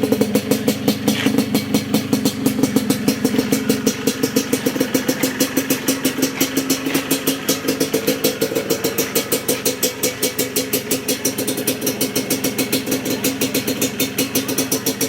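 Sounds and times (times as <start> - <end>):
two-stroke engine idling: 0.0 - 15.0.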